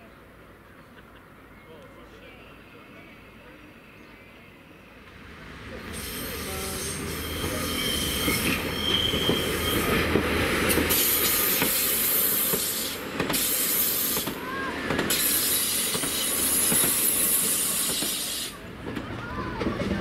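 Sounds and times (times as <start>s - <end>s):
train wheels on rail: 3.9s - 20.0s.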